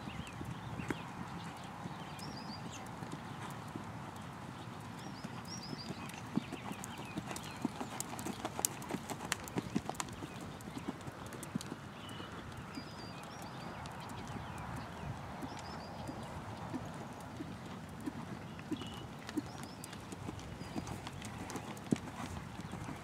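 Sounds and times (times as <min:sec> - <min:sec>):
horse hoofbeats on sand: 0:00.0 - 0:23.0.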